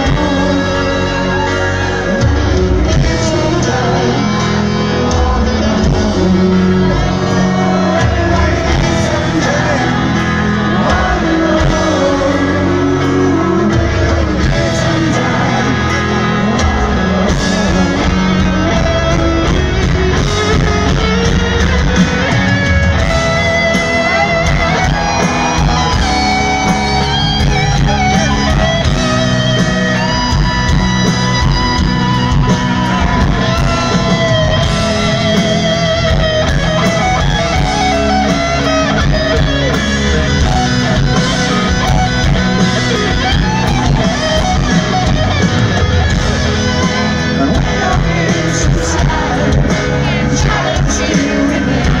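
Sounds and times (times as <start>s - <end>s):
electric guitar bending notes: 0.0s - 52.0s
live rock band playing: 0.0s - 52.0s.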